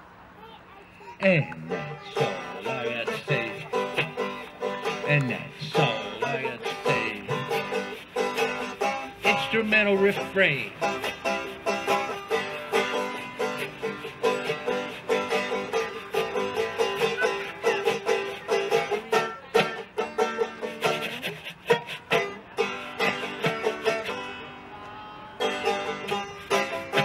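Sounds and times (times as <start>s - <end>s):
washboard clicking rhythm: 1.4s - 24.3s, 25.5s - 27.0s
banjo picking a quick melody: 1.6s - 24.5s, 25.4s - 27.0s.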